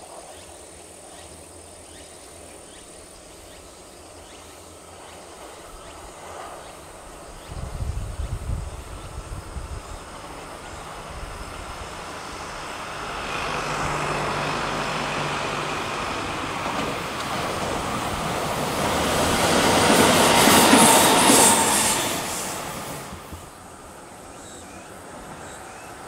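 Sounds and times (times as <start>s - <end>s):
train wheels rumbling on rails: 0.1s - 26.0s
electric train passing: 0.2s - 26.0s.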